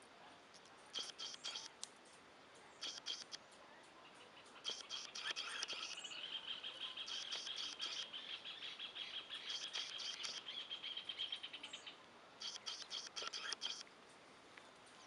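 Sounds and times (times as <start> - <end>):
small birds chirping: 0.6 - 15.0.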